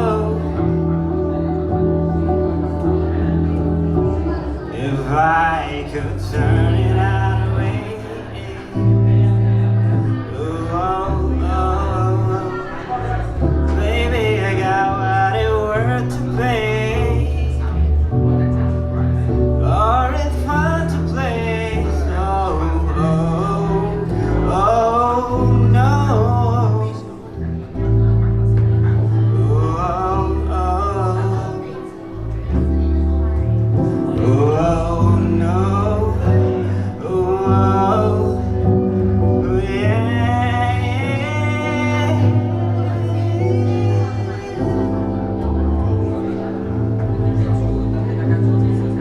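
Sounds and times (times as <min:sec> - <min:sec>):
guitar accompaniment: 0:00.0 - 0:49.0
low bass line: 0:00.0 - 0:49.0
man singing: 0:00.0 - 0:49.0.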